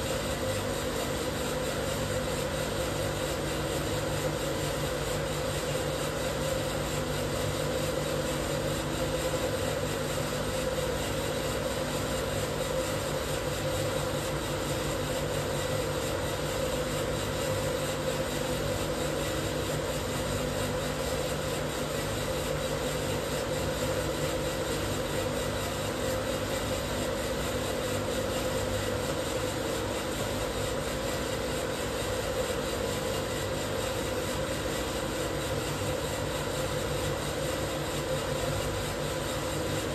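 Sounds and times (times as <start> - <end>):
drum coffee roaster humming: 0.0 - 39.9.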